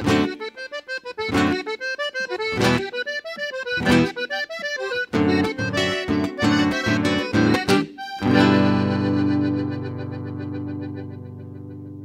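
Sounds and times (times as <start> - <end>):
button accordion melody: 0.0 - 12.0.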